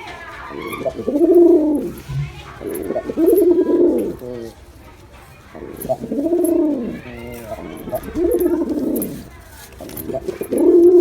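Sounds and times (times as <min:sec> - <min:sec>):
pigeon cooing: 0:00.4 - 0:04.7, 0:05.4 - 0:11.0.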